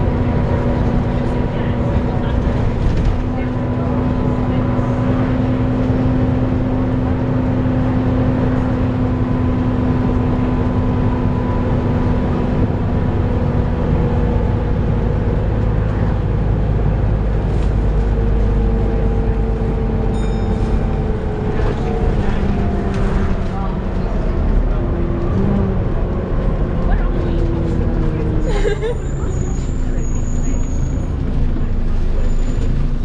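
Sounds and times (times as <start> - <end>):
bus engine whining: 0.0 - 33.0.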